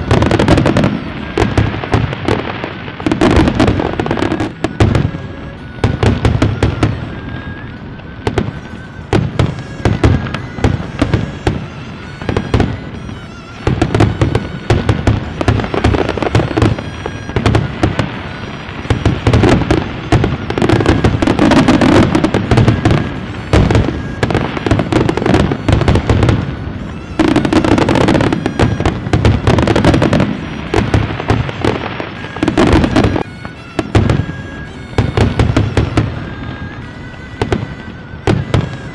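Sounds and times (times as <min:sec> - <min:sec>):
fireworks crackling bangs: 0:00.0 - 0:38.9.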